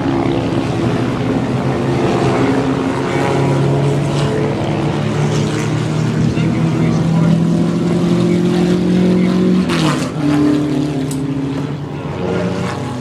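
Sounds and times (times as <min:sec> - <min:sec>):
propeller airplane engine droning: 0:00.0 - 0:13.0.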